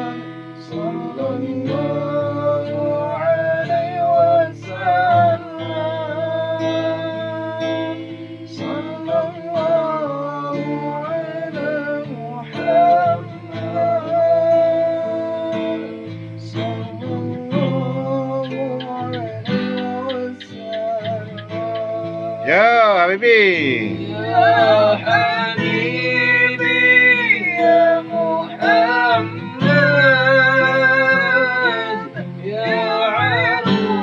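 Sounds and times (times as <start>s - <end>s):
acoustic guitar: 0.0s - 34.0s.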